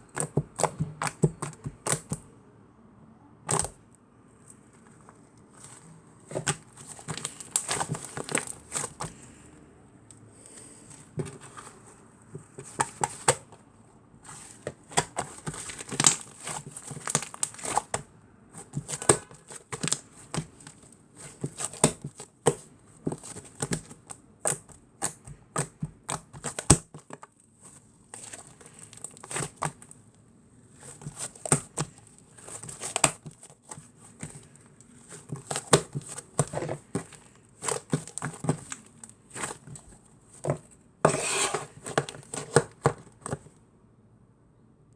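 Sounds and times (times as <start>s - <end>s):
crinkling: 3.5s - 43.6s.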